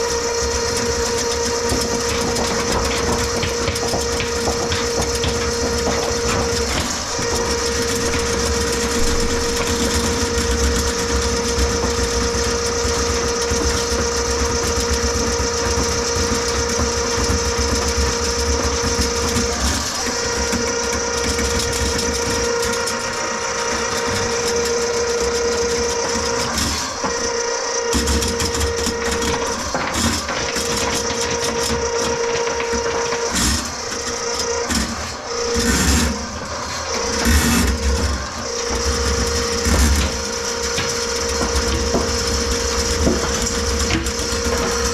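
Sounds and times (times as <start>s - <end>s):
drain-cleaning machine whining: 0.0s - 44.9s.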